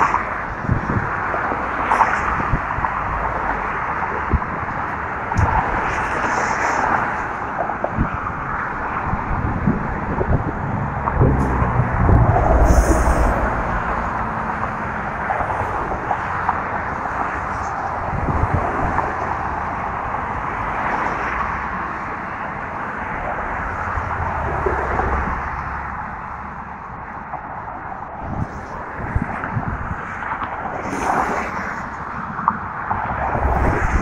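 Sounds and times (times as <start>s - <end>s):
wind buffeting microphone: 0.0s - 21.8s, 27.8s - 34.0s
tyre noise of passing traffic: 0.0s - 34.0s
vehicle engines rumbling: 0.0s - 34.0s.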